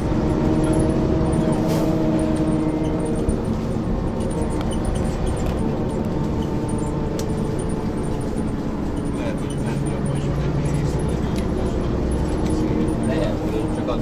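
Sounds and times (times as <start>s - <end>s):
diesel bus engine drone: 0.0s - 14.0s.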